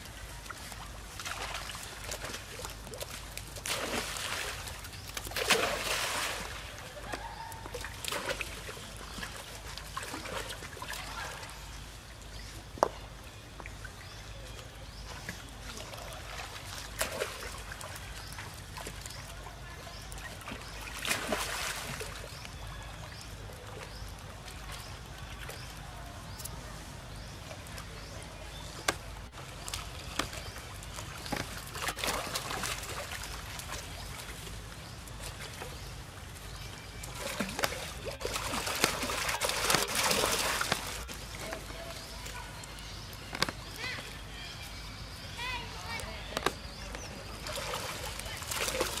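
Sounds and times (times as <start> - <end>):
water splashing and sloshing: 0.0 - 49.0.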